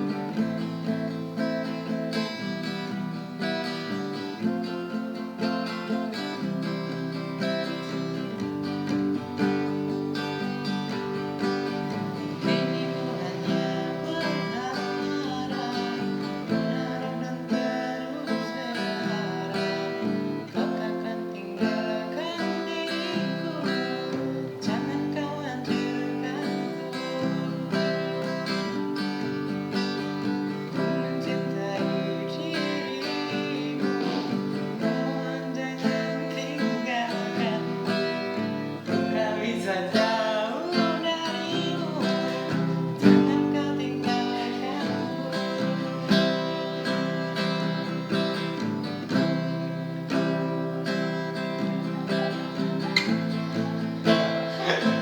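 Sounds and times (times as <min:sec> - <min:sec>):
acoustic guitar strumming: 0:00.0 - 0:55.0
person singing: 0:00.0 - 0:55.0.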